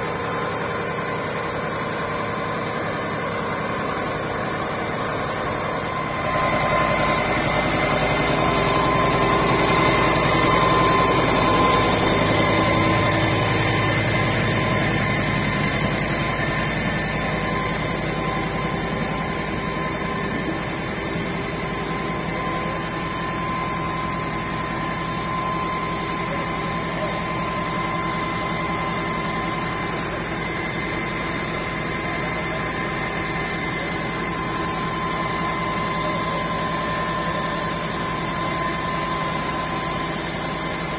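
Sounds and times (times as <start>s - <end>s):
engine running steadily: 0.0s - 40.9s
steady high whine: 0.0s - 40.9s.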